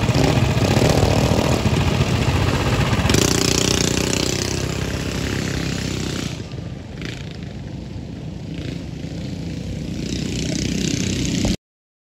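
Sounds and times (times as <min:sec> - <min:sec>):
mini bike engines running: 0:00.0 - 0:11.6.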